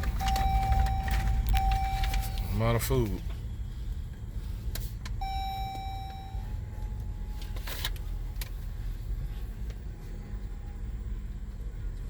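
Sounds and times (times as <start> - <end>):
car engine rumble inside cabin: 0.0 - 12.0.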